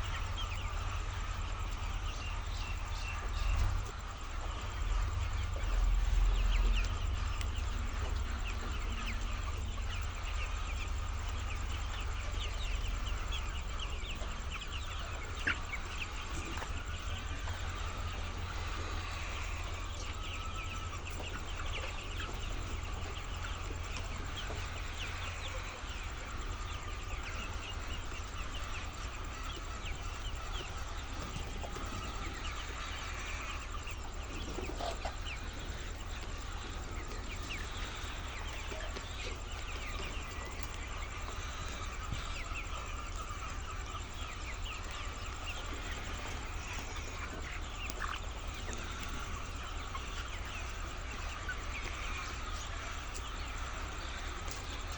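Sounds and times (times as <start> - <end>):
hens clucking: 0.0 - 54.9
steady low hum: 0.0 - 54.9.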